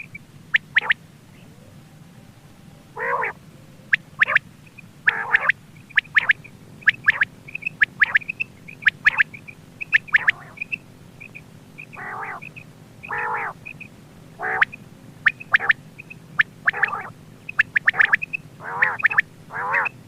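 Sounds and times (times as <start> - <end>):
quail calling: 0.0 - 1.8, 2.8 - 20.0.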